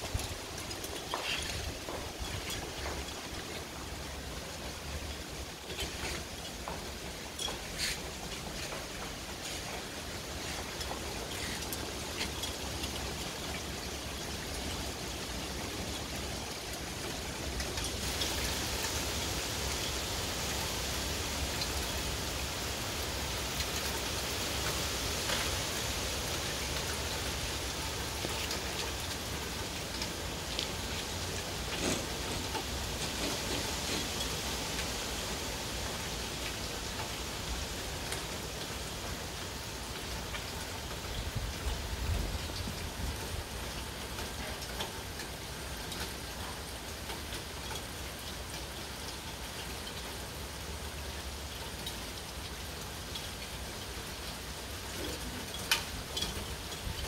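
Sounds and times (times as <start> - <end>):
sharp raindrop impacts: 0.0 - 50.3, 51.0 - 57.0
heavy rain falling: 0.0 - 57.0.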